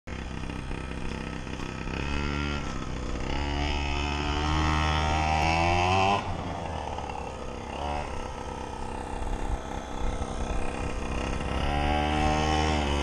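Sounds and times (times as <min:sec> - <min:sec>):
small two-stroke engine revving: 0:00.1 - 0:13.0.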